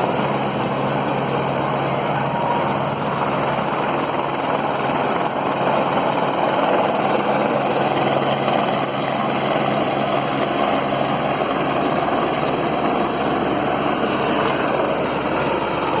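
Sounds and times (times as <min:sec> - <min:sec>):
helicopter engine and rotors: 0:00.0 - 0:16.0.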